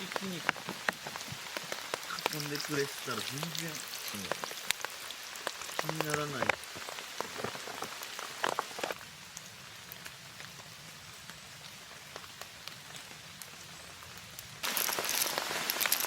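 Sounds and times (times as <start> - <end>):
rain pattering on tarp: 0.0 - 16.0.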